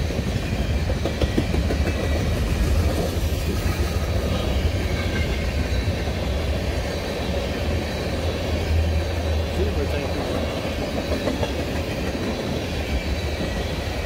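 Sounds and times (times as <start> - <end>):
steel wheels rumbling on rail: 0.0 - 14.0.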